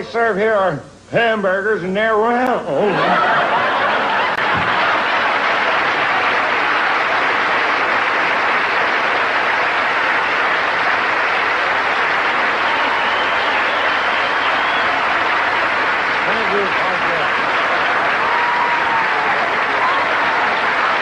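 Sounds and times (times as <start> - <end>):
large audience applauding: 3.2 - 21.0.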